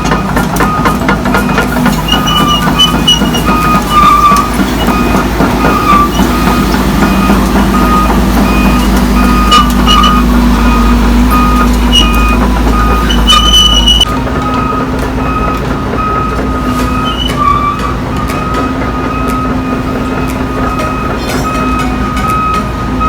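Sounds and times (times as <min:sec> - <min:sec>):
beeping travel alarm: 0:00.0 - 0:23.0
excavator diesel engine running: 0:00.0 - 0:23.0.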